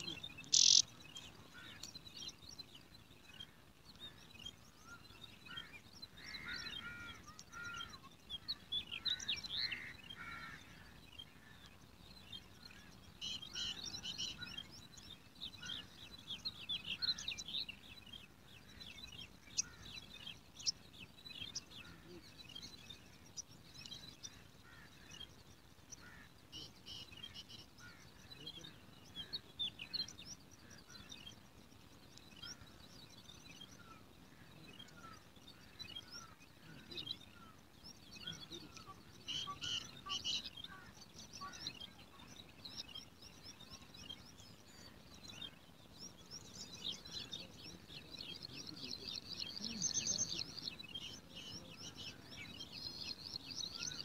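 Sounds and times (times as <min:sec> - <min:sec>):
faint background hiss: 0:00.0 - 0:54.0
small birds chirping: 0:00.0 - 0:54.0.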